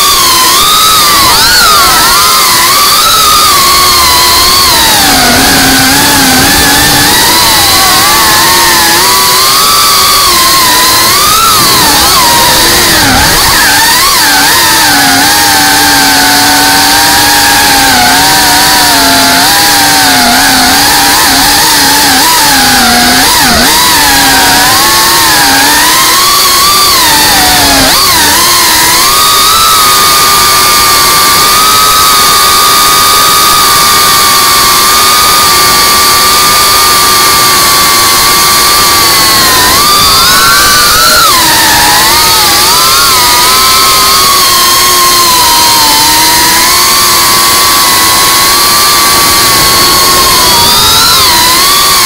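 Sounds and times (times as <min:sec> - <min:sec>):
quadcopter motors whining: 0:00.0 - 0:52.0.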